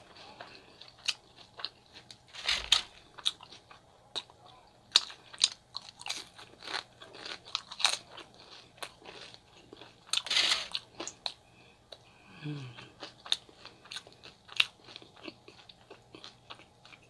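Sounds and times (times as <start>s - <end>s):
close chewing with crunches: 0.0s - 12.0s, 12.6s - 17.0s.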